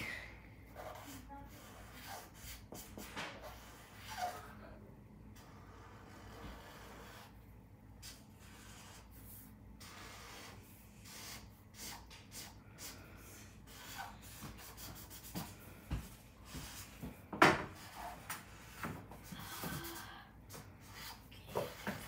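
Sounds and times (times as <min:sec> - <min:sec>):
marker scratching across paper: 0:00.7 - 0:04.7, 0:05.3 - 0:22.0.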